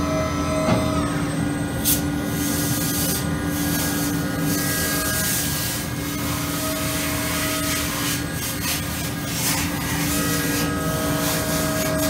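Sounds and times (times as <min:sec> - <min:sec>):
machine spindle whine: 0:00.0 - 0:12.0.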